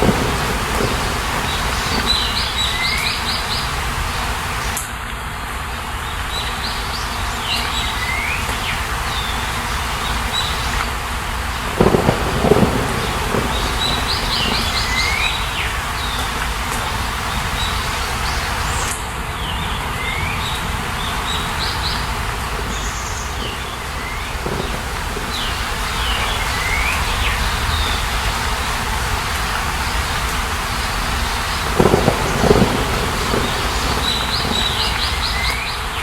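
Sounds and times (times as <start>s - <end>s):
steady rushing background noise: 0.0s - 36.0s.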